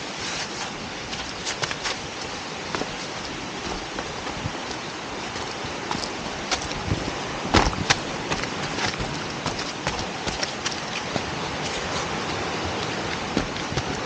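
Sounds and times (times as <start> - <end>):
water splashes: 0.0 - 14.0
waterfall rushing over rocks: 0.0 - 14.0.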